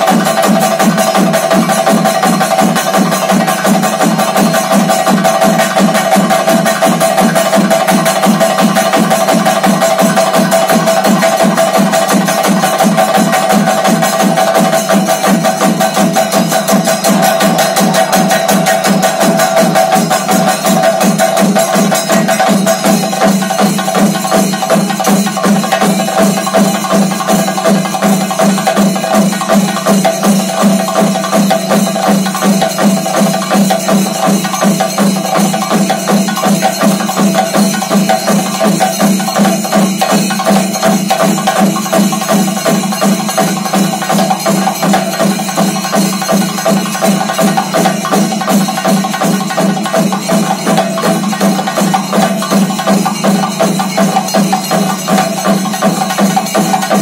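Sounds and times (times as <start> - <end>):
cymbals: 0.0 - 57.0
steady accompanying drum beat: 0.0 - 57.0.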